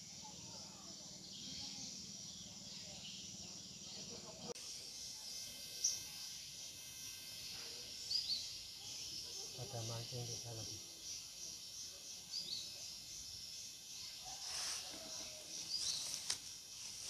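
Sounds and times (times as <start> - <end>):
faint distant voices: 0.0 - 17.0
high insect drone: 0.0 - 17.0.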